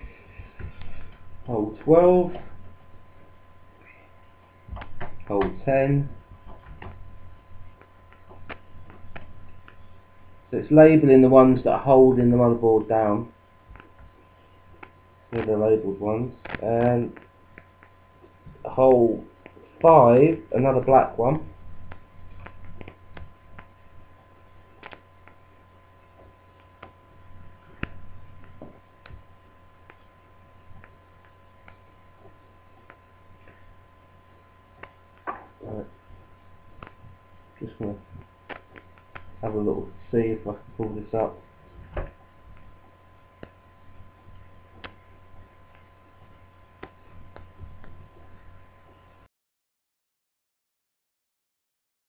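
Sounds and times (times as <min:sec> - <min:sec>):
faint steady hum: 0:00.0 - 0:49.3.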